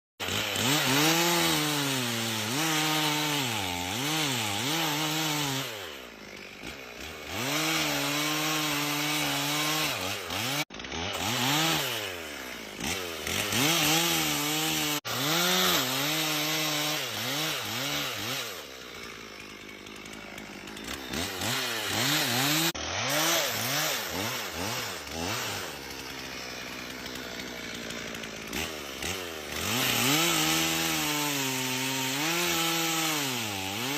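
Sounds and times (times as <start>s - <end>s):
chainsaw cutting through timber: 0.2s - 33.9s.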